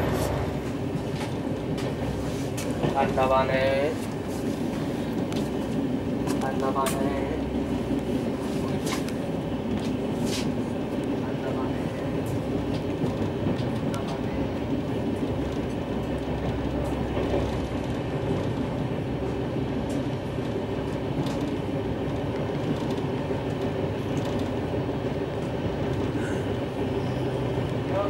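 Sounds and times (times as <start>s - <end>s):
freight train passing: 0.0s - 28.0s
train interior rumble: 0.0s - 28.0s.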